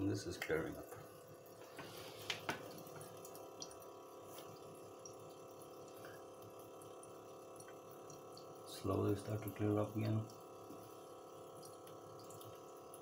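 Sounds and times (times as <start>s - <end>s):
small water pump humming: 0.0s - 13.0s
water trickling and dripping: 0.1s - 13.0s.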